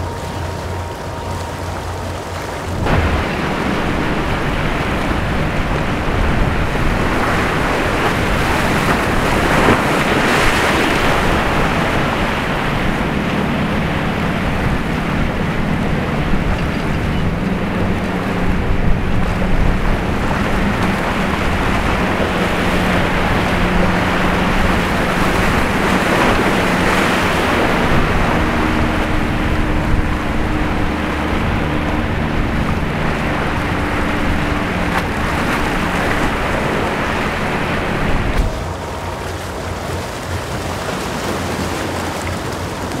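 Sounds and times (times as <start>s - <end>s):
boat engines humming: 0.0s - 43.0s
surf and rushing water: 0.0s - 43.0s
wind buffeting microphone: 0.0s - 43.0s.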